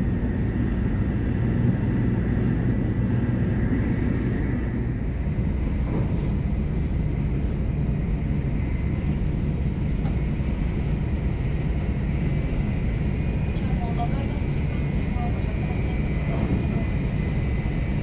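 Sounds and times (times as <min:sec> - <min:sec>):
train running rumble inside cabin: 0:00.0 - 0:18.0.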